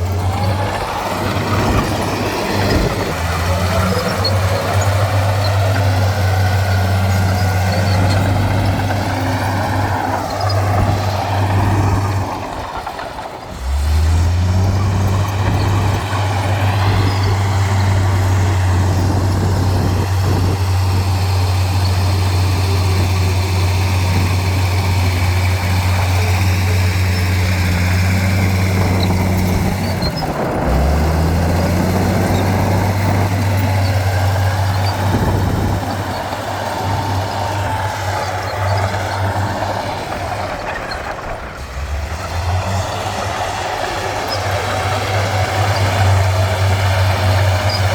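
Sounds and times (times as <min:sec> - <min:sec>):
diesel engine low drone: 0:00.0 - 0:47.9.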